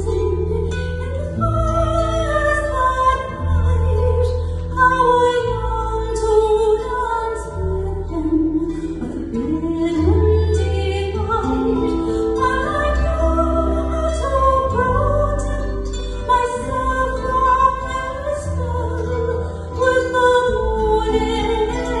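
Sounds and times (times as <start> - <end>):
long held bass notes: 0.0 - 22.0
plucked strings: 0.0 - 22.0.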